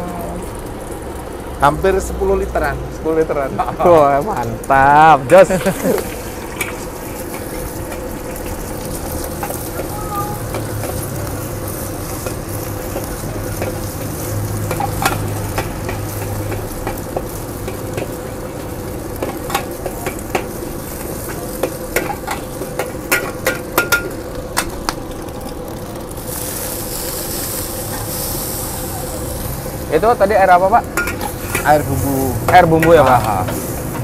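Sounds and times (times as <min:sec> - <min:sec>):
eggs sizzling in a wok: 0:00.0 - 0:34.0
water poured into hot pan hissing: 0:05.5 - 0:34.0.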